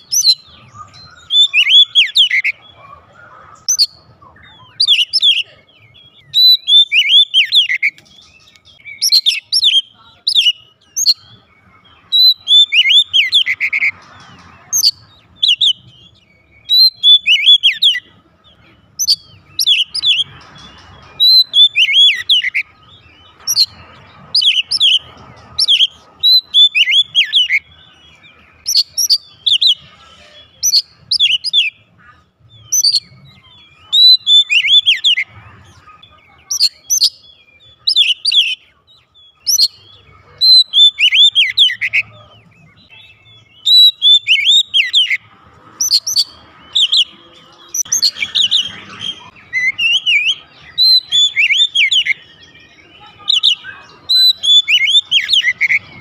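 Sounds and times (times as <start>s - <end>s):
bird singing whistled phrases: 0.0s - 2.6s, 3.6s - 13.9s, 14.8s - 18.1s, 18.9s - 23.8s, 24.4s - 27.8s, 28.6s - 35.3s, 39.4s - 42.1s, 42.7s - 45.2s, 45.8s - 56.0s.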